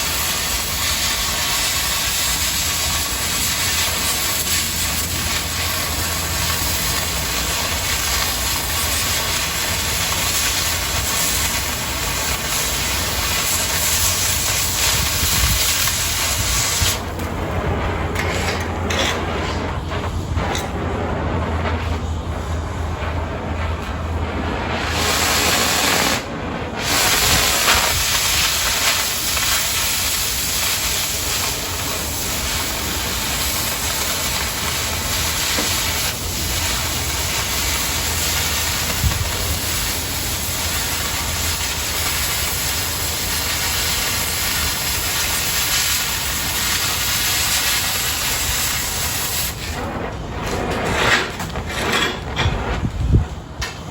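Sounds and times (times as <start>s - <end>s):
cutting torch hissing: 0.0s - 53.9s.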